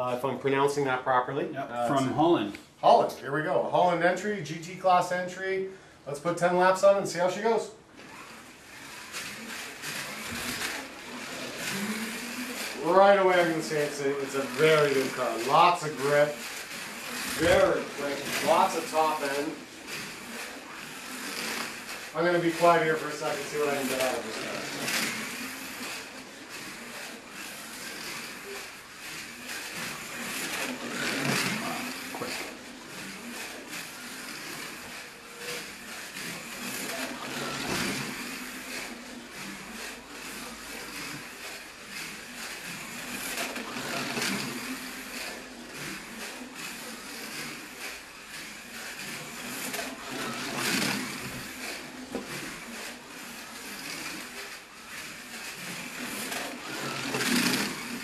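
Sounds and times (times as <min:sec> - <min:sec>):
slot car motor whining: 0:01.7 - 0:58.0.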